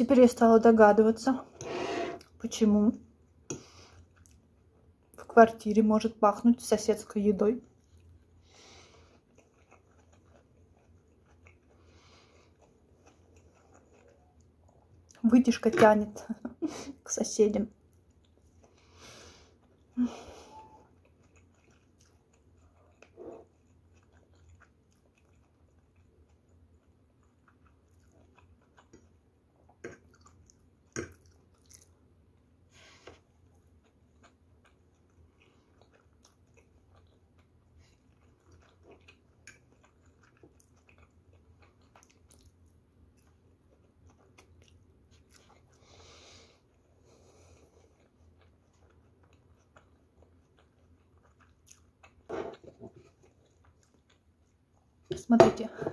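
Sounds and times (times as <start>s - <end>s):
person chewing food: 3.2s - 5.2s, 7.6s - 15.2s, 17.7s - 55.2s.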